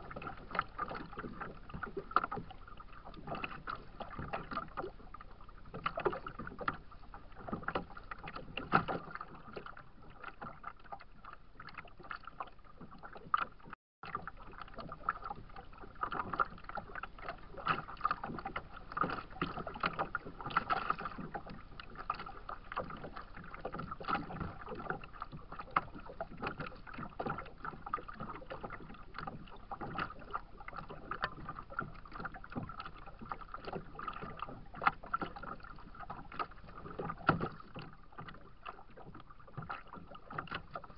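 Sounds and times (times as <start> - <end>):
water splashing against kayak hull: 0.0 - 40.9.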